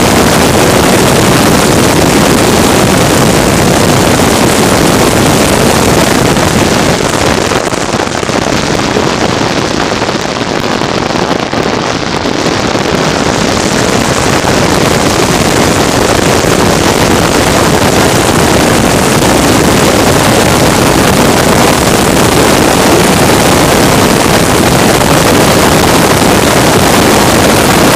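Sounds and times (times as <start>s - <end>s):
racing engine running hard: 0.0s - 10.6s, 12.5s - 27.9s
wind buffeting microphone: 0.0s - 27.9s.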